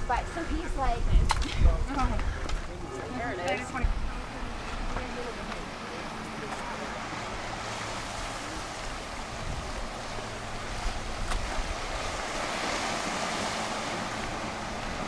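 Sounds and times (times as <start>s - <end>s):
low wind rumble: 0.0s - 15.0s
surf washing over rocks: 0.0s - 15.0s.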